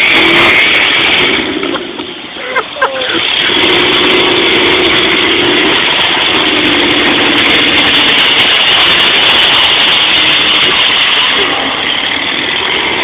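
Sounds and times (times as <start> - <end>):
car engine running: 0.0 - 13.0
loud rushing noise: 0.0 - 13.0.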